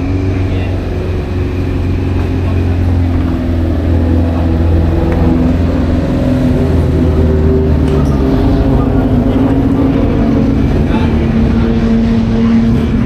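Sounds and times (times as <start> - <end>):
car engine running low revs: 0.0 - 13.0.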